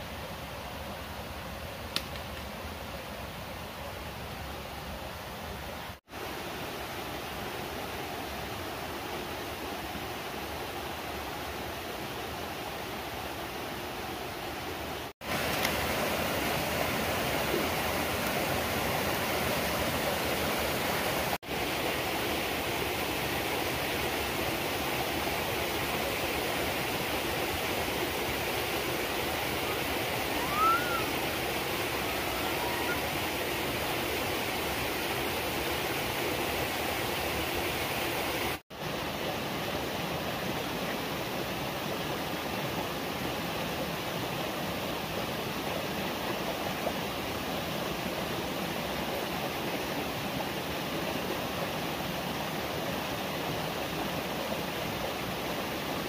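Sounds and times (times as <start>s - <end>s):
flowing water: 0.0s - 56.0s.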